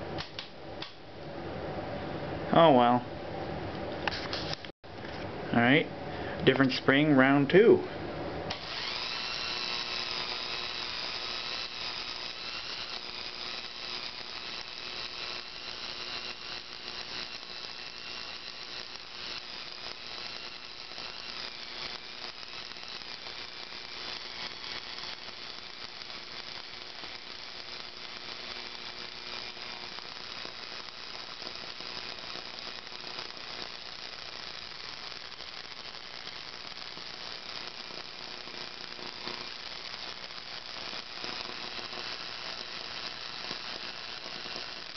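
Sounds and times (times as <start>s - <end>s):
crackle of motor brushes arcing: 8.4s - 44.9s
electric motor whirring: 8.5s - 44.9s.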